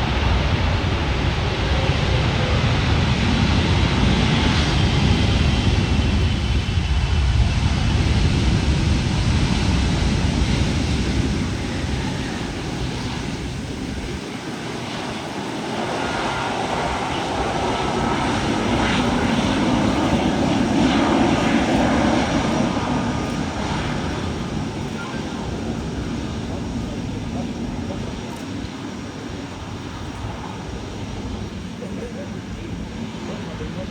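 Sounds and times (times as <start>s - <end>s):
jet airliner engines passing: 0.0s - 33.9s.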